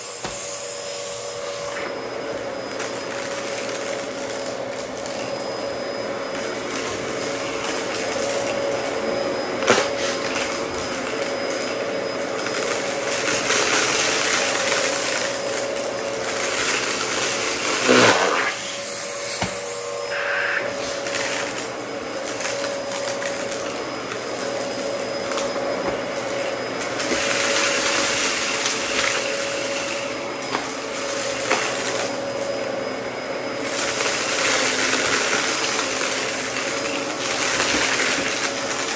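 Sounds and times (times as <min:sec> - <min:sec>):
vacuum cleaner humming: 0:00.0 - 0:38.9.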